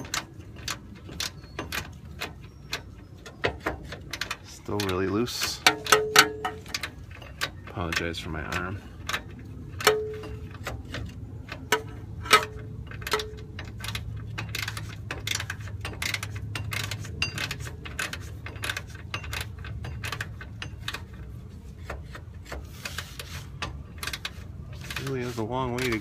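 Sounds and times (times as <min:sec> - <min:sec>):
ratchet wrench clicking: 0:00.0 - 0:26.0.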